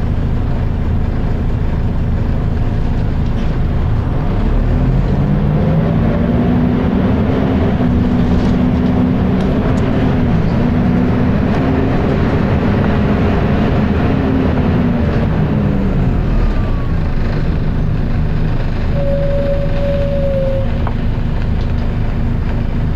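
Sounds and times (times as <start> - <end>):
bus diesel engine running: 0.0 - 22.9.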